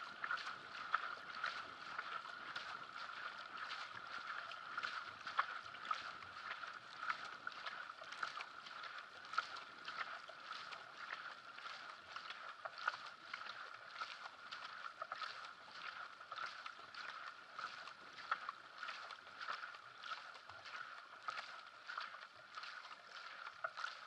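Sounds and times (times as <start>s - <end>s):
paddles splashing in water: 0.0s - 24.0s
water rushing along hull: 0.0s - 24.0s.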